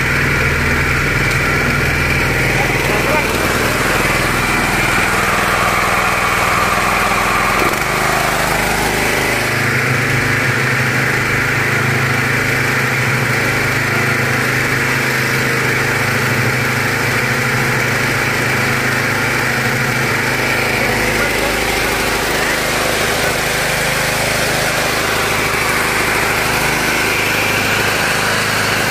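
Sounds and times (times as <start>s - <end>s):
small petrol engine running: 0.0s - 28.9s.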